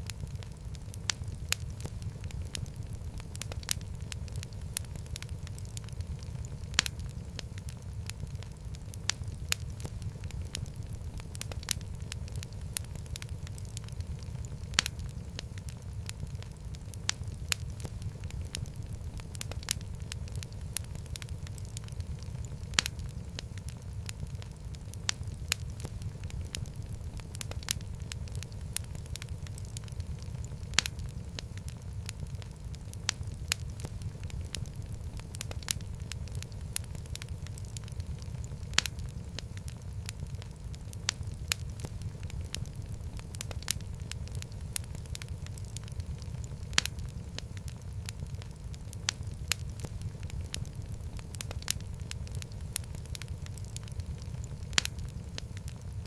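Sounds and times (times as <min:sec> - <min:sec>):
burning logs crackling and popping: 0:00.0 - 0:56.0
fire rumbling: 0:00.0 - 0:56.0.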